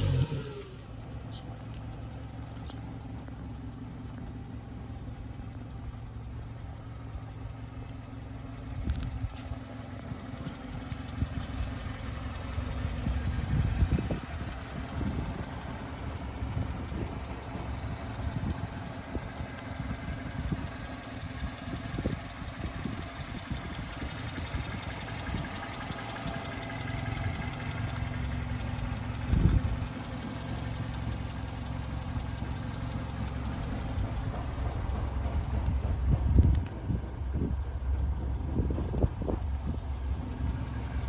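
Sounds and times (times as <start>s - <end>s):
small truck engine idling: 0.0s - 41.0s.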